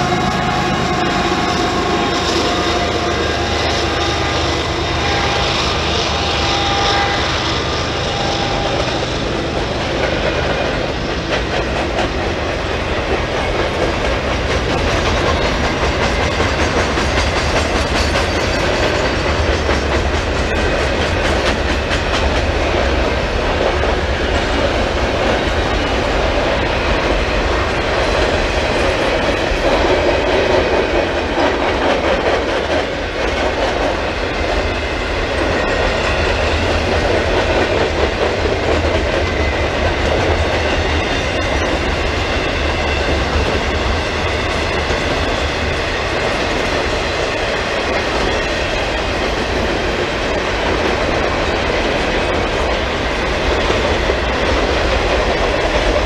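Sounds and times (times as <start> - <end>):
diesel locomotive engine hum: 0.0 - 56.0
steel wheels rumbling on rail: 0.0 - 56.0.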